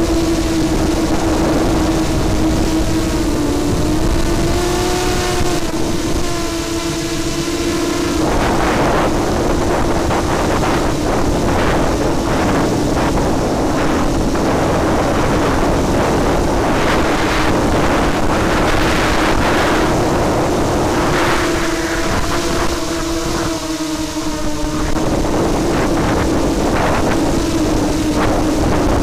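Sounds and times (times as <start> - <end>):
drone propellers buzzing: 0.0 - 29.0
wind rush on microphone: 0.0 - 29.0.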